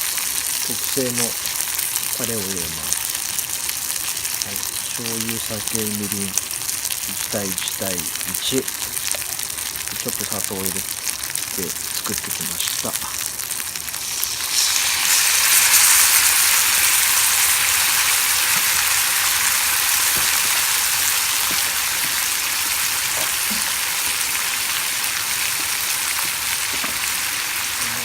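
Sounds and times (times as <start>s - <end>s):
sauce bubbling: 0.0s - 28.0s
sauce sizzling in hot pan: 0.0s - 28.0s.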